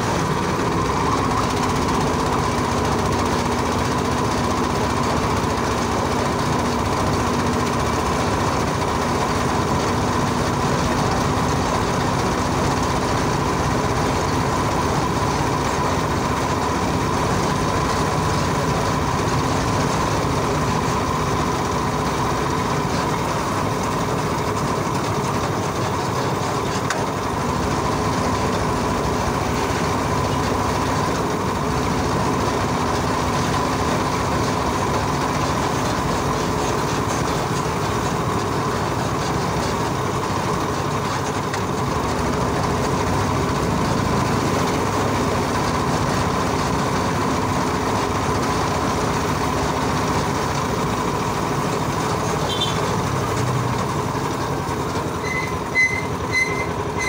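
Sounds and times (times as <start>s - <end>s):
tyres on concrete road: 0.0s - 57.0s.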